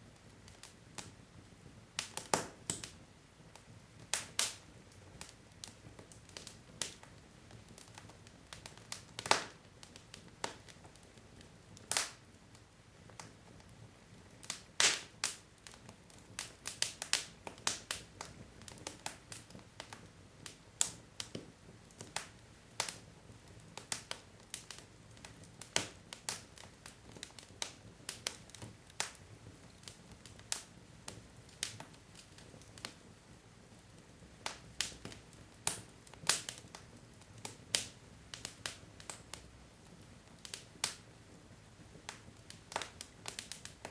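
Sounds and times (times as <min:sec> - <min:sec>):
fire crackling and popping: 0:00.0 - 0:43.9
low hiss of fire: 0:00.0 - 0:43.9.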